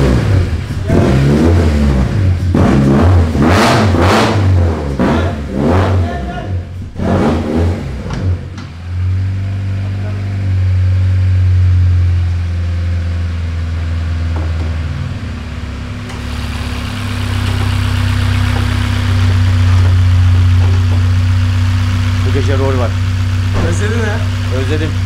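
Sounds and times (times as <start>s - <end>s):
car engine running on a dyno: 0.0s - 6.1s, 6.7s - 25.0s.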